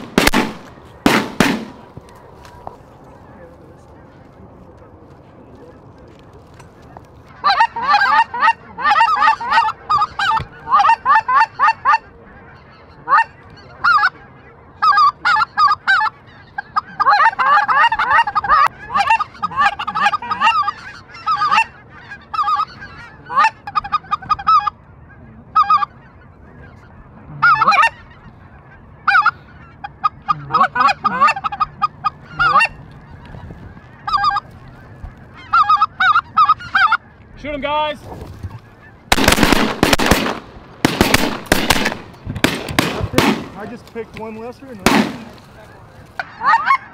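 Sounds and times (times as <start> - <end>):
geese honking and clucking: 0.0 - 46.9.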